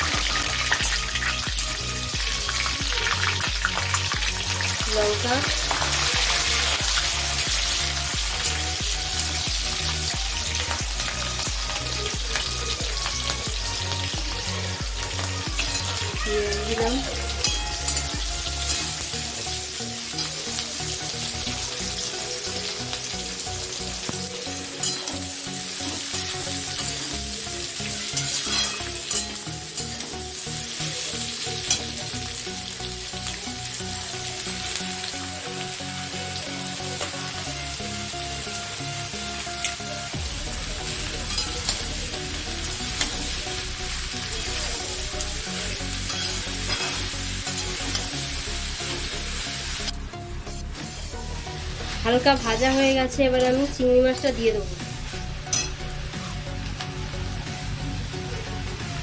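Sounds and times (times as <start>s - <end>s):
spices sizzling in hot oil: 0.0s - 59.0s.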